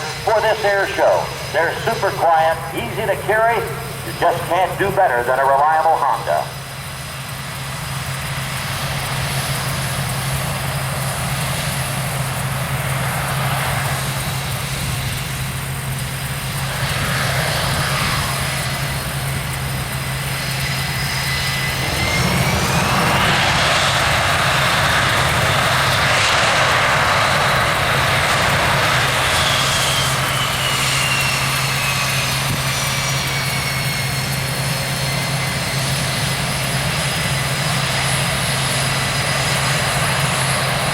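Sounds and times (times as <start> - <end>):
aircraft engines droning: 0.0 - 40.9
jet turbine whine: 0.0 - 40.9.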